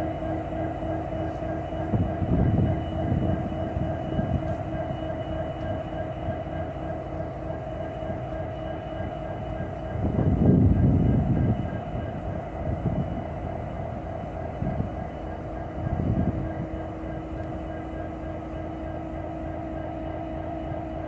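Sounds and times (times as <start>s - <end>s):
high steady whines: 0.0s - 21.0s
locomotive engine rumbling: 0.0s - 21.0s.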